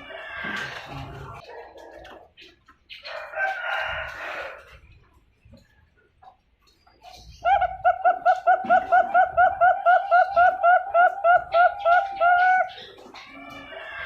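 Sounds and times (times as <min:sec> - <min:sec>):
dove chick cooing: 0:00.0 - 0:04.6, 0:07.0 - 0:14.0.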